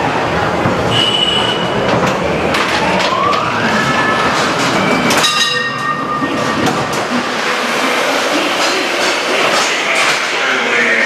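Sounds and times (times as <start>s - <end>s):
train car rumbling on track: 0.0s - 11.0s.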